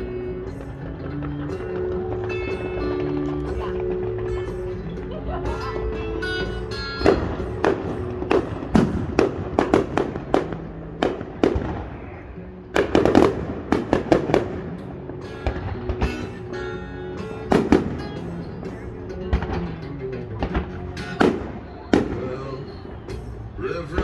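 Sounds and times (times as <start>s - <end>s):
fireworks bangs and cracks: 0.0s - 24.0s
music: 0.0s - 24.0s.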